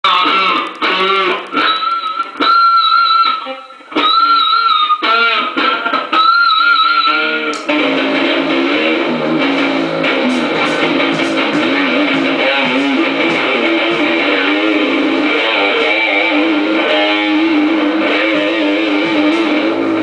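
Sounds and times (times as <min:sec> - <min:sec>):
heavily distorted electric guitar: 0:00.0 - 0:20.0.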